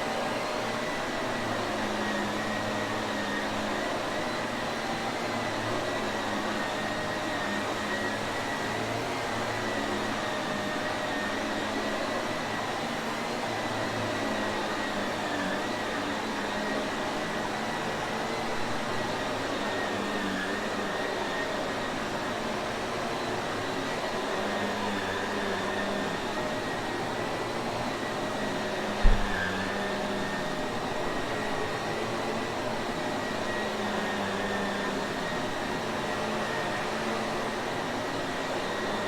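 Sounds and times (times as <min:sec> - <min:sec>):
vacuum cleaner motor running: 0:00.0 - 0:39.0.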